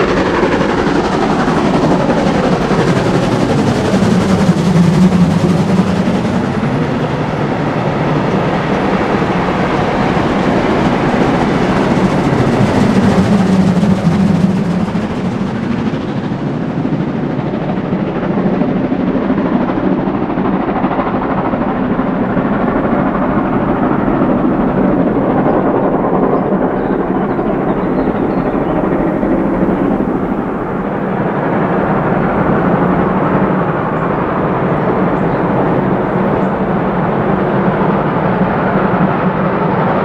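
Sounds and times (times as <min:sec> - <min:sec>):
steam locomotive exhaust rumble: 0:00.0 - 0:40.0.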